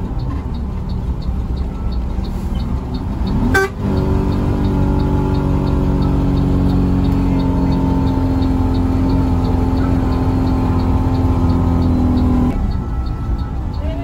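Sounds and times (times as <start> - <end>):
bus engine humming: 0.0 - 14.0
faint light ticking: 0.0 - 14.0
road noise: 0.0 - 14.0.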